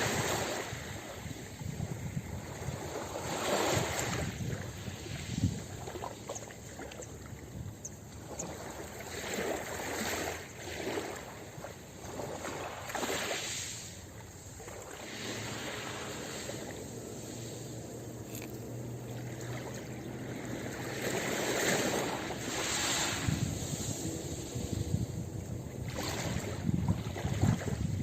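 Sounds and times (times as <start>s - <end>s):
ocean waves washing onto beach: 0.0s - 28.0s.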